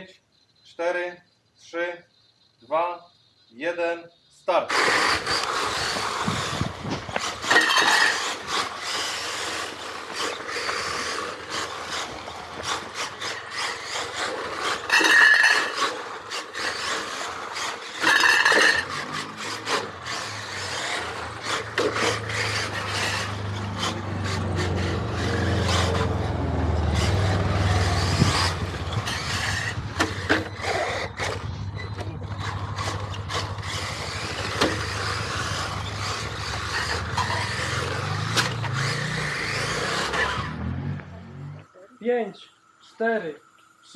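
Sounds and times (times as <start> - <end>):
toy car tyres scrabbling on pavement: 4.7 - 40.7.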